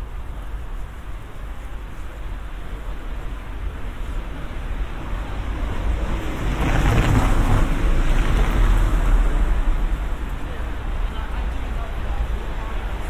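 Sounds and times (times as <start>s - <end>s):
wind on microphone: 0.0s - 11.2s
vehicle tyre and road noise: 0.0s - 13.0s.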